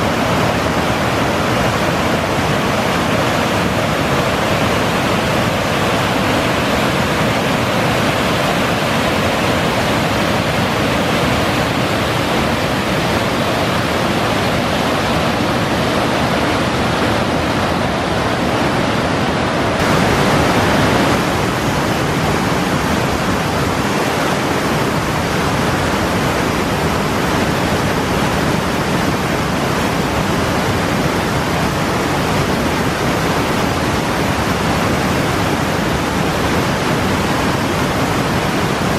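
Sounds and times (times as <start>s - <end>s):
waterfall rushing over rock: 0.0s - 38.9s.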